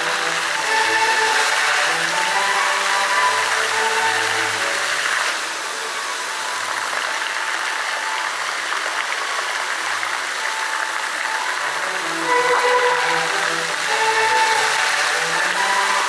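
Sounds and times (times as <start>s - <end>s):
faint music: 0.0s - 16.0s
fountain water splashing: 0.0s - 16.0s.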